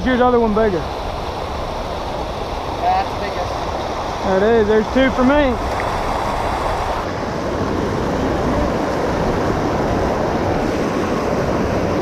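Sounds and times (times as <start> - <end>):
creek water rushing: 0.0 - 12.0
wind rumble on microphone: 0.0 - 12.0.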